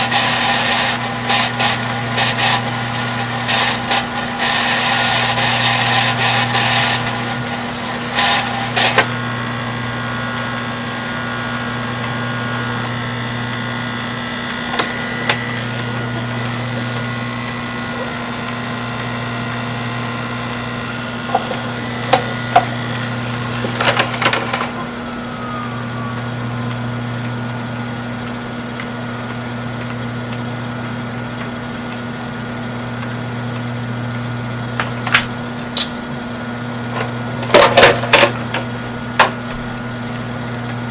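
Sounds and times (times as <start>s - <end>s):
motor hum and whine: 0.0s - 40.9s.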